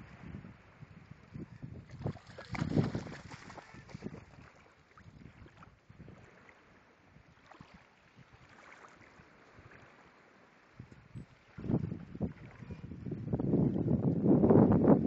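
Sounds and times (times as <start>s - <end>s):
water splashing and lapping: 0.0s - 14.1s
light wind: 0.0s - 15.0s.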